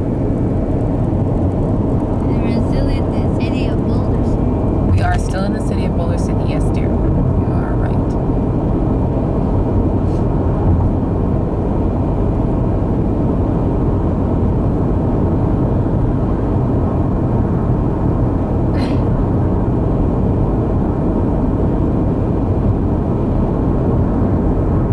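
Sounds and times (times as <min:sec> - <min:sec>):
car road and engine noise: 0:00.0 - 0:24.9.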